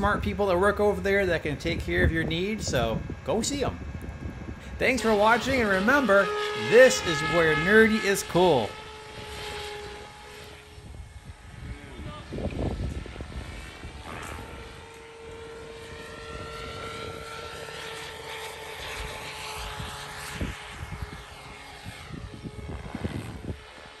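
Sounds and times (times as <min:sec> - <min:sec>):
rc helicopter whine: 0:00.0 - 0:24.0.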